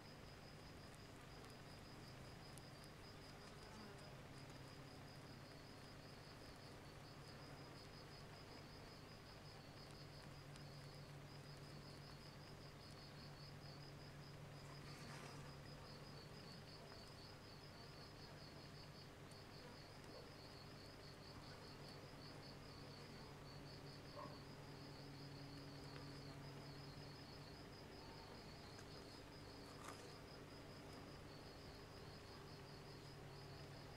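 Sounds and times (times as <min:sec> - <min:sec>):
insect chirping: 0:00.2 - 0:33.9.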